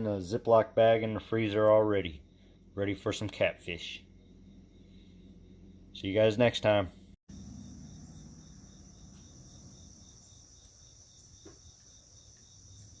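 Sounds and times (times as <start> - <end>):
pulsing insect chirp: 2.0 - 13.0
insects buzzing: 2.2 - 13.0.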